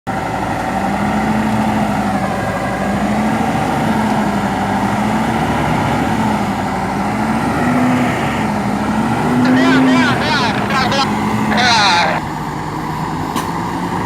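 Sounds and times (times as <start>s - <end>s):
diesel truck engine droning: 0.1s - 14.0s.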